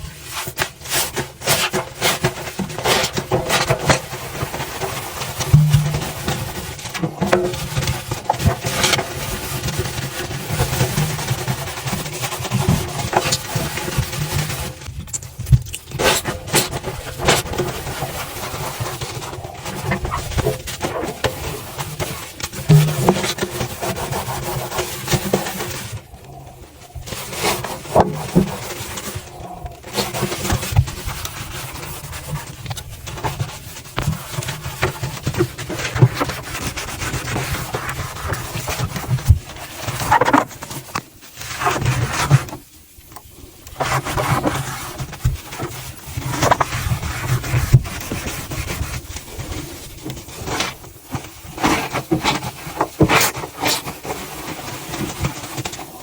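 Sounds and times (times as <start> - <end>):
rubbing and scraping: 0.0 - 56.0.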